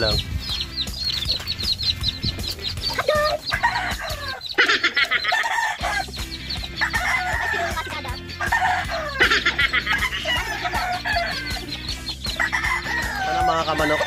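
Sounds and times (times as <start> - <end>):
roosters clucking: 0.0 - 14.0
roosters crowing: 0.4 - 14.0.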